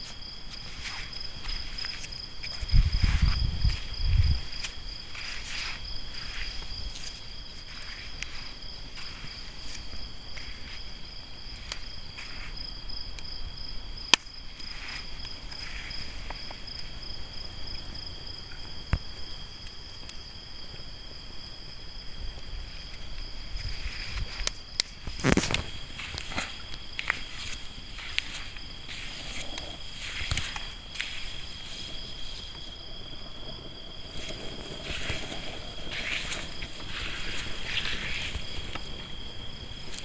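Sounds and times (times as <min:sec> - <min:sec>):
campfire crackles: 0:00.0 - 0:40.0
crickets trilling: 0:00.0 - 0:40.0.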